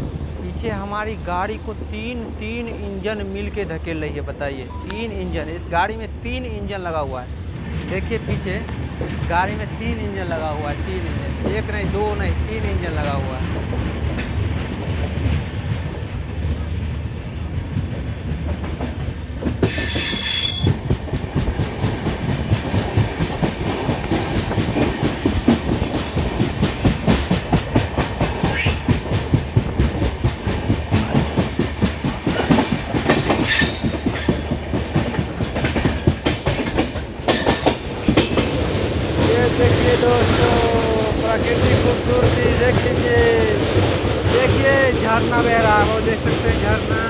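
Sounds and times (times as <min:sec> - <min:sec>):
train rumbling over rails: 0:00.0 - 0:47.0.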